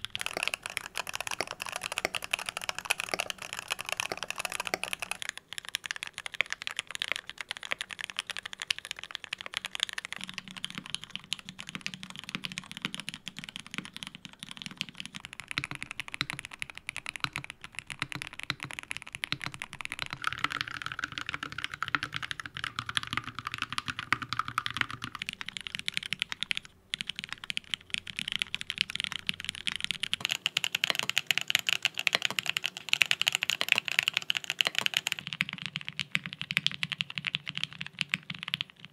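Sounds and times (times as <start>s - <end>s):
typing on mechanical keyboards: 0.0s - 38.9s.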